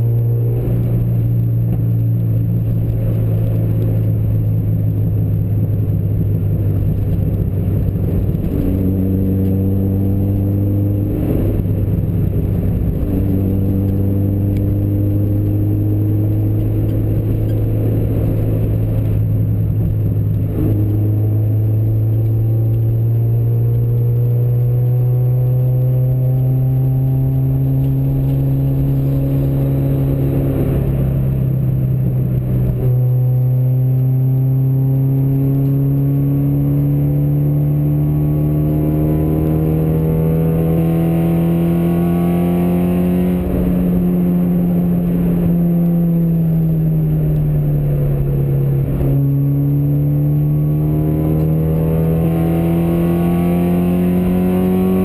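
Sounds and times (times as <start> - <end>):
car engine running: 0.0 - 55.0
road noise rumble: 0.0 - 55.0.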